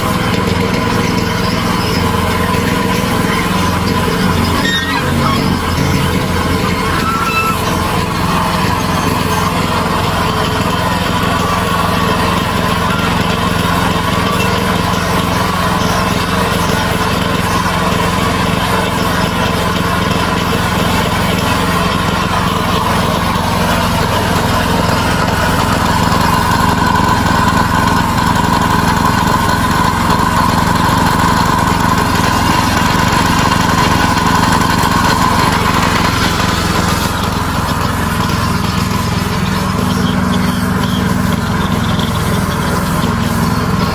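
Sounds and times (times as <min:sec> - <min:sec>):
small gasoline engine running: 0:00.0 - 0:43.9.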